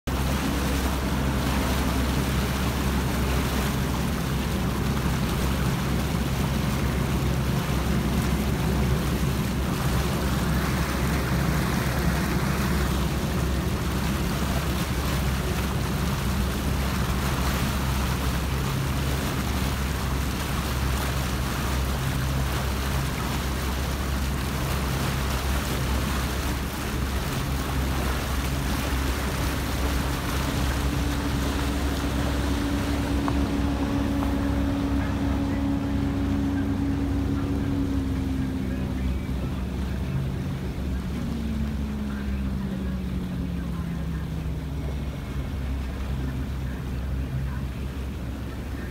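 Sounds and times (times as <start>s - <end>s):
motorboat engine running: 0.0s - 48.9s
passing powerboat engine: 0.0s - 48.9s
wake water rushing: 0.0s - 48.9s
wind: 0.0s - 48.9s.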